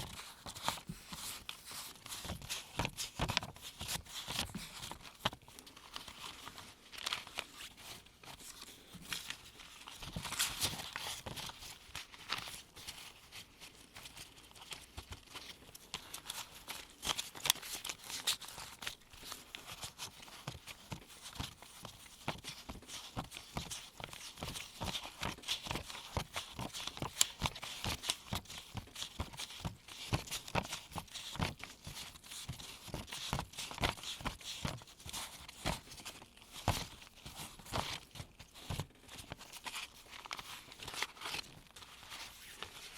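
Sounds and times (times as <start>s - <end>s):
paper bills snapping and rustling: 0.0s - 42.9s.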